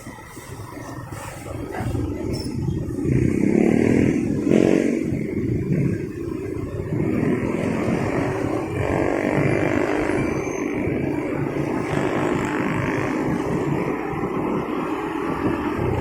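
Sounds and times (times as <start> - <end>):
motorcycle engine running: 0.0 - 16.0
traffic and road noise: 0.0 - 16.0.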